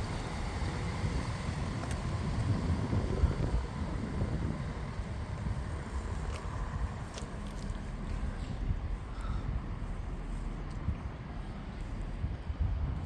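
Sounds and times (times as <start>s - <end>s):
diesel train rumble: 0.0s - 13.0s.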